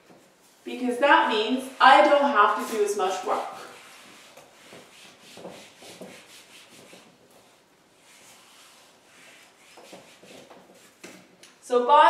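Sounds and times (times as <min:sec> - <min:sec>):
eraser wiping whiteboard: 0:00.0 - 0:11.4.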